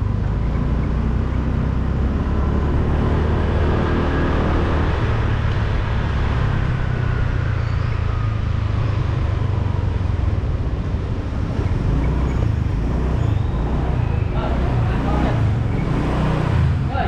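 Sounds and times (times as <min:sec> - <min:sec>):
road and wind noise: 0:00.0 - 0:17.0
surrounding traffic: 0:00.0 - 0:17.0.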